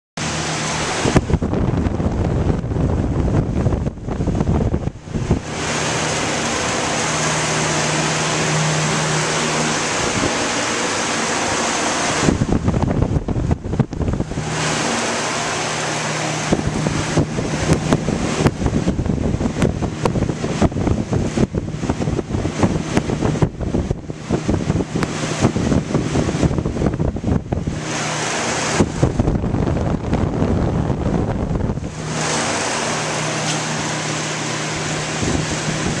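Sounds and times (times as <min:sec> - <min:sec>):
exhaust fan rushing air: 0:00.2 - 0:36.0
low hum: 0:00.2 - 0:36.0.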